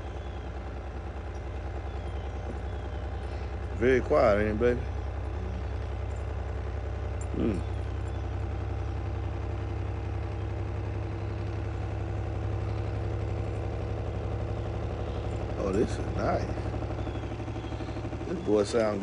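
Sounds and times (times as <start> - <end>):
subwoofer low bass hum: 0.0 - 19.0.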